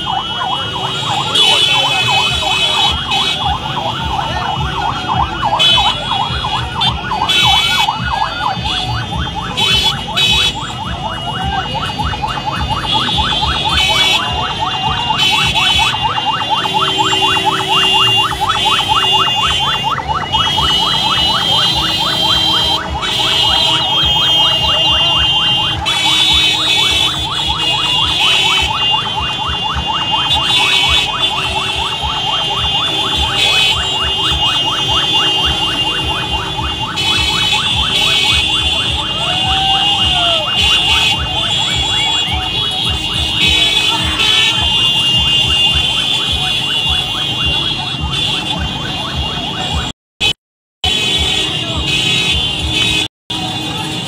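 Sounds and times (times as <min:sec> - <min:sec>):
electronic vehicle siren: 0:00.0 - 0:50.4
high steady horn tones: 0:00.0 - 0:54.0.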